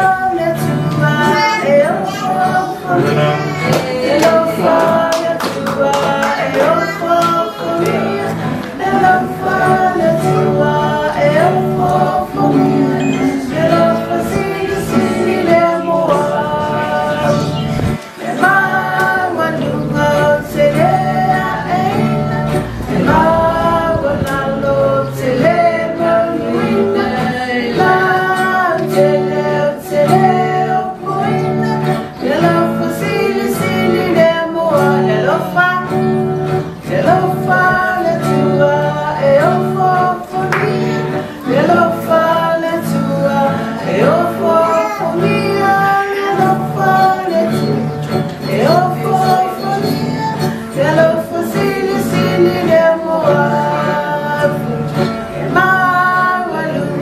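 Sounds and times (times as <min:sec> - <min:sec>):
acoustic guitar: 0:00.0 - 0:57.0
woman singing: 0:00.0 - 0:57.0.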